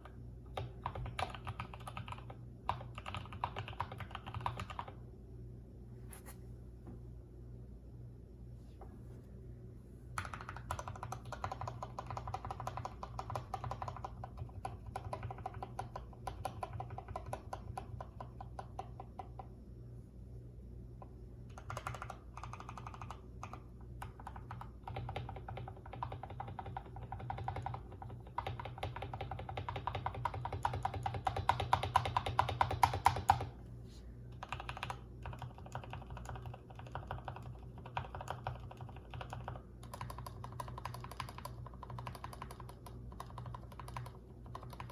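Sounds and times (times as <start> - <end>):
mechanical keyboard typing: 0.0 - 5.0, 10.2 - 19.5, 21.5 - 33.5, 34.3 - 44.9.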